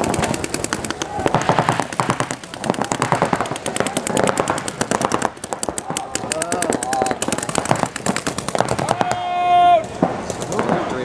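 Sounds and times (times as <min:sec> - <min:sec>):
paintball markers firing rapidly: 0:00.0 - 0:09.3, 0:09.9 - 0:11.0.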